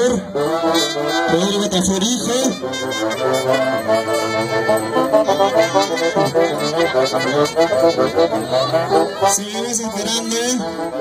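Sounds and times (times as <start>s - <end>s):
live band playing dance tune: 0.0s - 11.0s.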